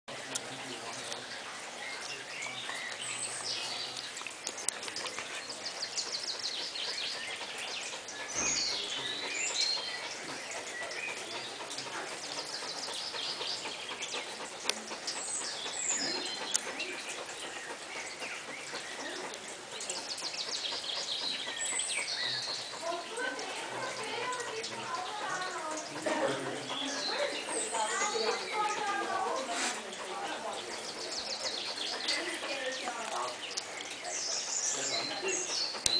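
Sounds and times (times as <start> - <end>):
birds chirping: 0.1 - 35.9
dog panting rapidly: 0.4 - 35.9.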